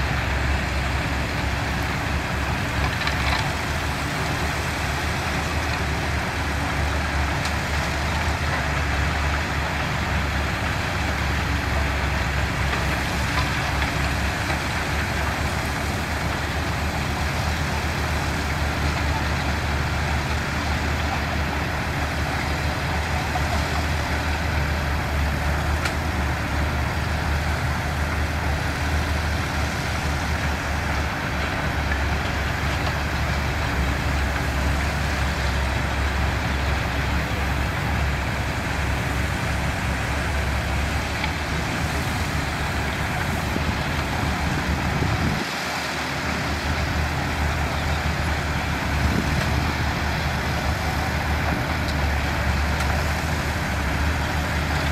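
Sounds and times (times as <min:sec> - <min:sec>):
diesel engine of heavy machinery: 0:00.0 - 0:54.9.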